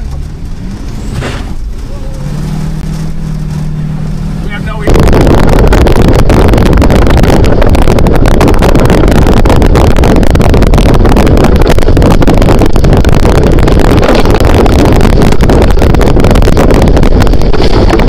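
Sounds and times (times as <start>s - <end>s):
rain battering microphone: 0.0s - 18.0s
wind noise on microphone: 0.0s - 18.0s.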